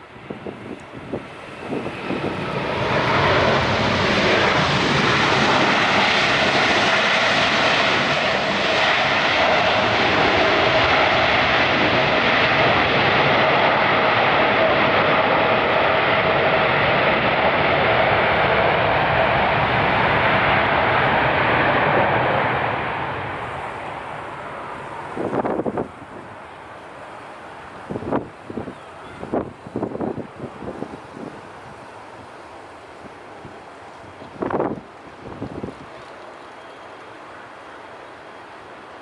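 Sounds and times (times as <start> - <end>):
jet airliner engines: 0.0 - 39.0.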